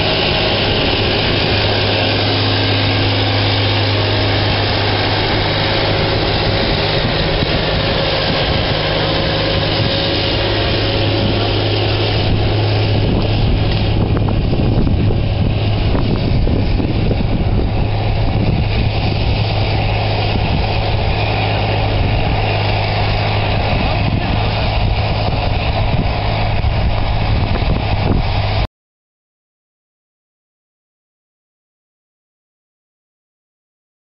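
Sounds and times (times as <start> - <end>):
tractor diesel engine droning: 0.0 - 28.7.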